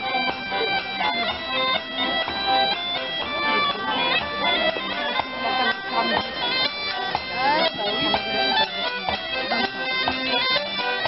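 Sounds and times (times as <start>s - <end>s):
button accordion folk music: 0.0s - 11.0s.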